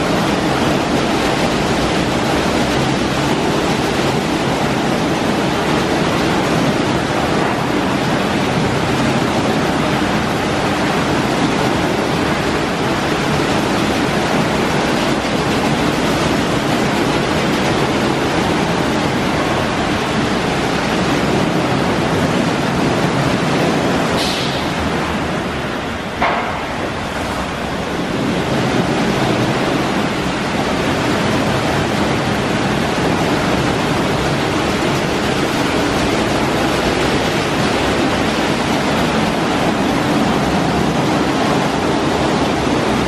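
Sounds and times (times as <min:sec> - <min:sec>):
car wash brushes rushing: 0:00.0 - 0:43.0.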